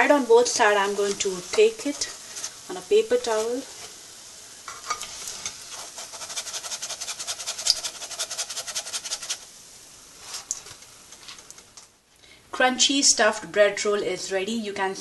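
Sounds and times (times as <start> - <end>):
deep-frying crackle: 0.0 - 12.4.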